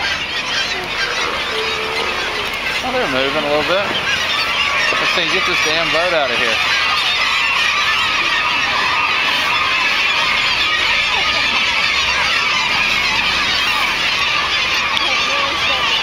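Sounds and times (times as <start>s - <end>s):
seabird colony calling: 0.0s - 16.0s.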